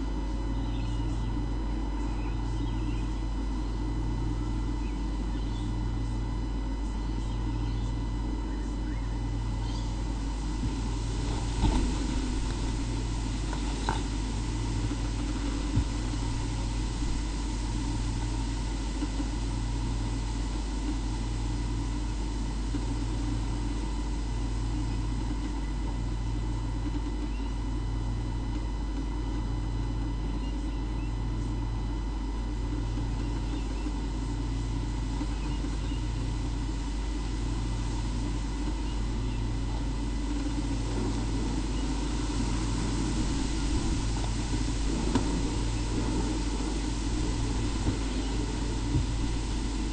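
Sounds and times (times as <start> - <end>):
low mechanical hum with throb: 0.0 - 49.9.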